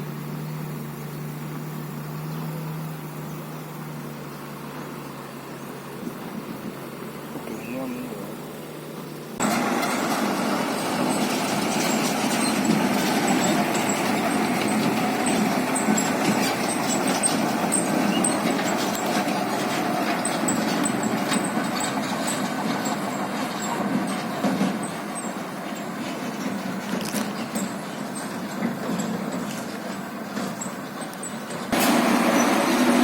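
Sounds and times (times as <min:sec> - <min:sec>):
heavy truck engine running: 0:00.0 - 0:33.0.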